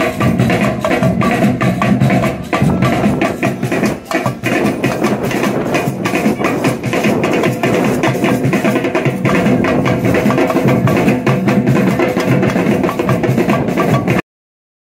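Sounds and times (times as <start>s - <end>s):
street drum group playing: 0.0s - 14.2s.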